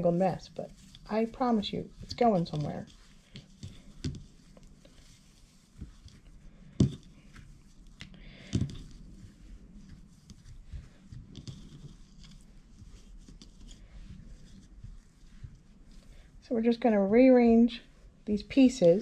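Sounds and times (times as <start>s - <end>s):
hands rustling rope: 0.0s - 16.7s.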